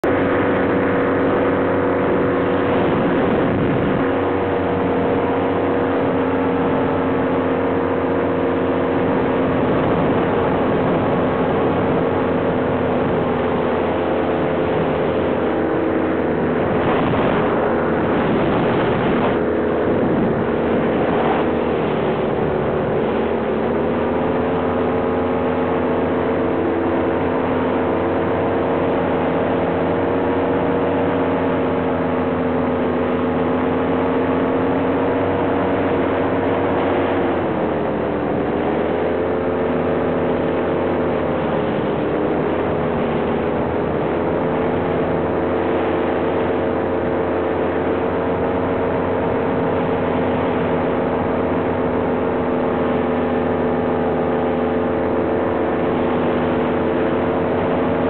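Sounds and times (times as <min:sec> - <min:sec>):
propeller aircraft engine running: 0:00.0 - 0:58.0
wind rushing over microphone: 0:00.0 - 0:58.0.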